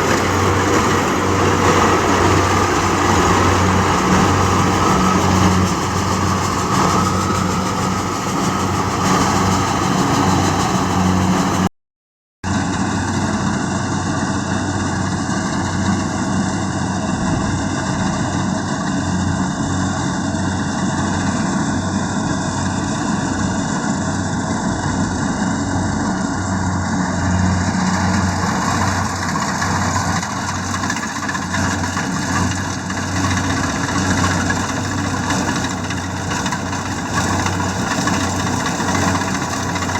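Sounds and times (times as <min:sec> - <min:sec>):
diesel engine running: 0:00.0 - 0:11.7, 0:12.5 - 0:39.9.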